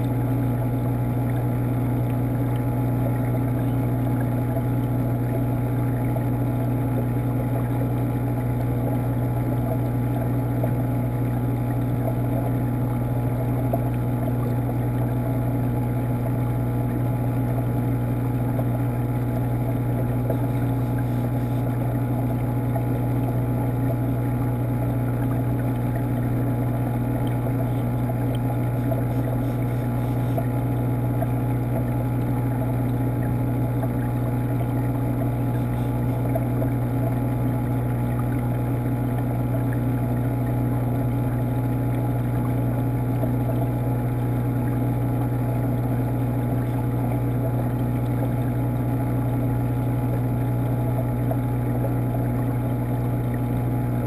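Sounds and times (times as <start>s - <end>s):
aquarium pump humming: 0.0s - 54.0s.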